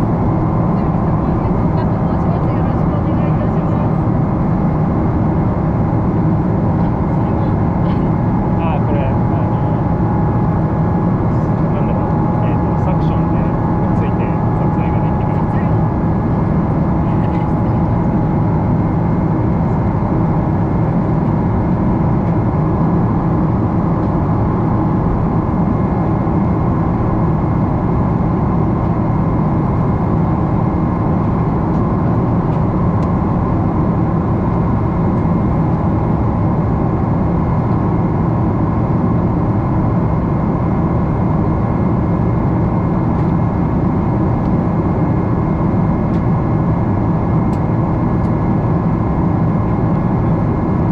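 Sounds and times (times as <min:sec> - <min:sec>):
jet engine rumble and rushing air: 0:00.0 - 0:50.9.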